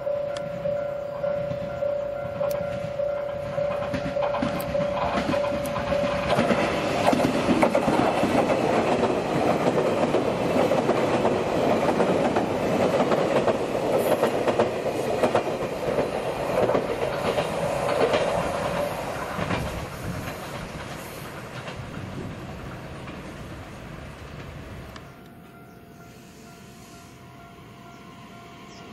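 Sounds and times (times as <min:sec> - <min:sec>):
train wheels clattering over joints: 0:02.4 - 0:25.6.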